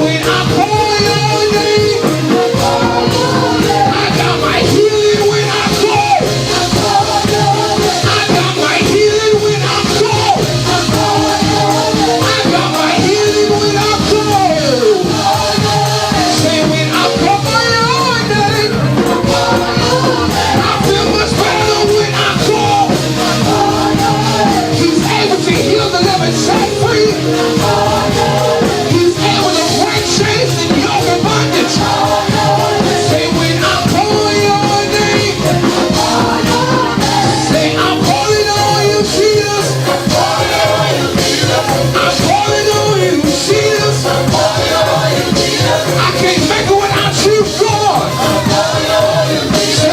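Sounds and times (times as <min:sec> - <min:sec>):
gospel worship music with singing: 0:00.0 - 0:49.9.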